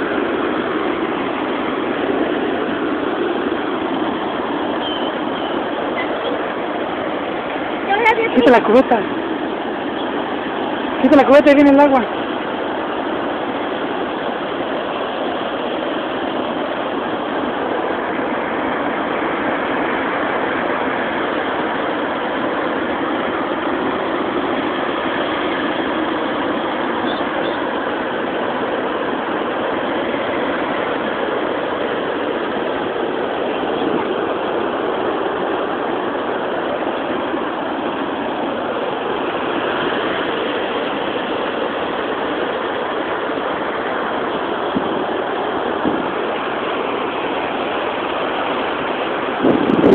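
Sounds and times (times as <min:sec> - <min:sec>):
ocean surf: 0:00.0 - 0:49.9.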